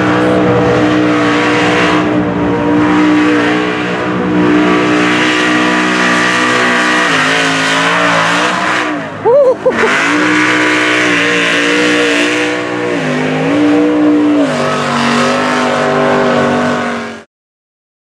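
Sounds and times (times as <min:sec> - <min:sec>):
tires churning through mud: 0:00.0 - 0:17.3
truck engine revving hard: 0:00.0 - 0:17.3.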